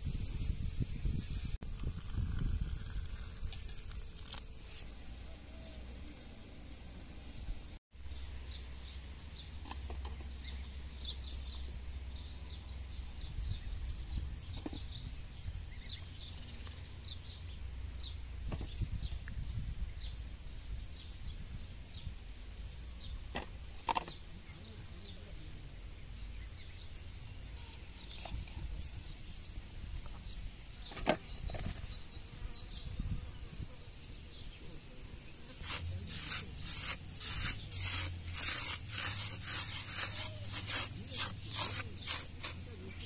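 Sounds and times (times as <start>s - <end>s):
small birds chirping: 4.8s - 43.0s.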